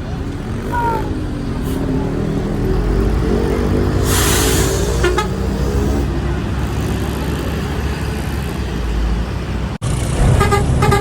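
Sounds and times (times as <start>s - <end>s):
bus passing by: 0.0s - 11.0s
engine and traffic rumble: 0.0s - 11.0s.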